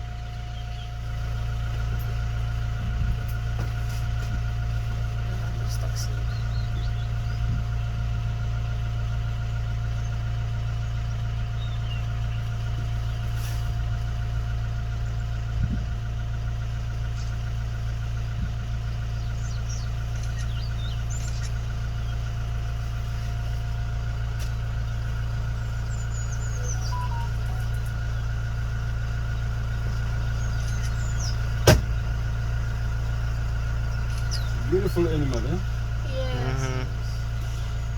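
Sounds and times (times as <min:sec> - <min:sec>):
vehicle engine idling: 0:00.0 - 0:37.9.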